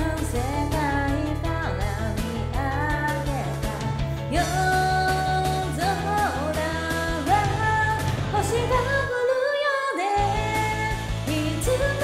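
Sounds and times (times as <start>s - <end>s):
pop-rock karaoke backing track: 0.0s - 12.0s
woman singing: 0.0s - 12.0s.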